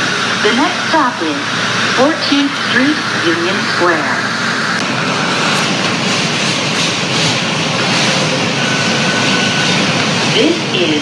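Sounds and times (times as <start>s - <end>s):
subway train rushing: 0.0s - 11.0s.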